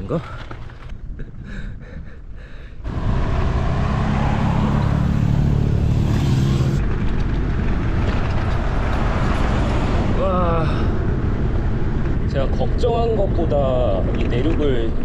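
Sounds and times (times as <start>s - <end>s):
vehicle engine hum: 0.0s - 15.0s
wind and road noise: 0.0s - 15.0s.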